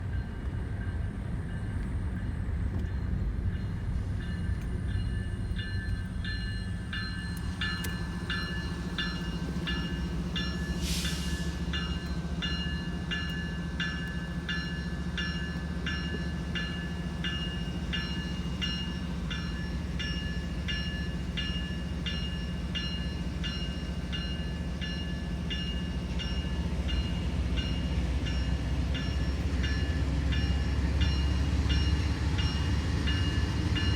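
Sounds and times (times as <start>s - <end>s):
freight train rumbling: 0.0s - 33.9s
train bell ringing: 0.0s - 33.9s.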